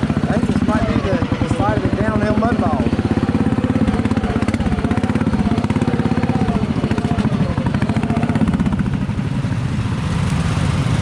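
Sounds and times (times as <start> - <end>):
small engine running under load: 0.0 - 11.0.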